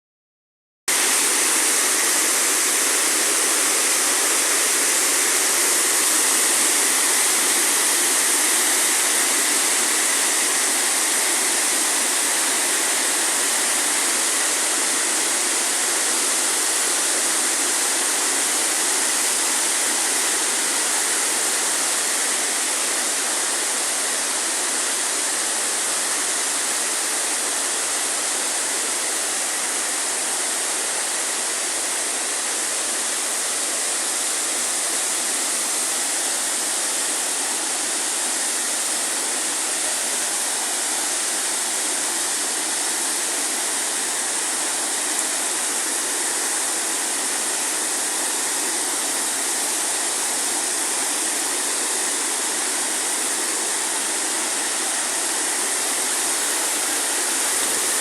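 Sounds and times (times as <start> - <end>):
waterfall rushing and splashing: 0.9 - 58.0.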